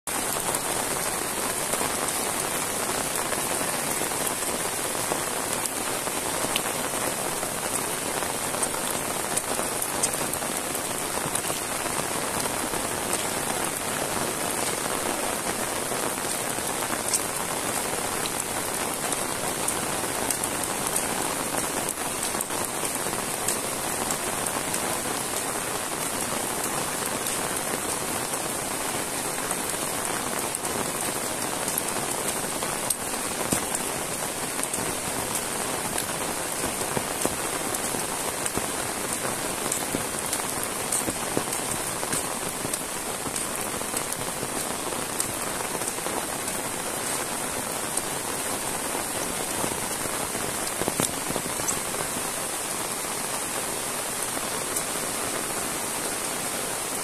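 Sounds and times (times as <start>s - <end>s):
heavy rain on road and leaves: 0.0s - 57.0s
raindrops ticking: 0.2s - 48.3s, 49.0s - 52.2s.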